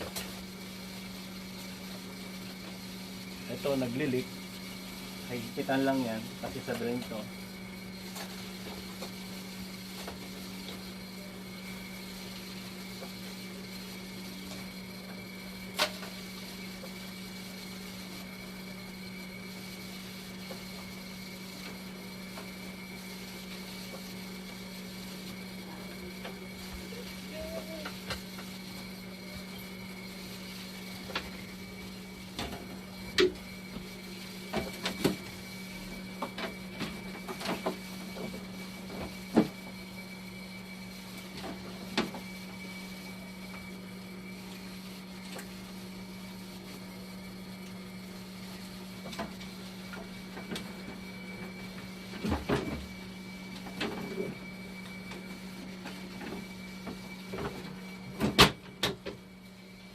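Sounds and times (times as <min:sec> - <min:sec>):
machine humming with high whine: 0:00.0 - 0:59.9.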